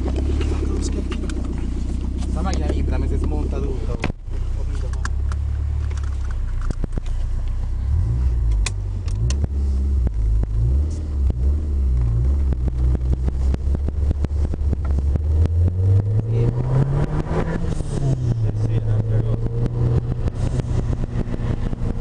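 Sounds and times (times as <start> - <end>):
car engine drone: 0.0 - 22.0.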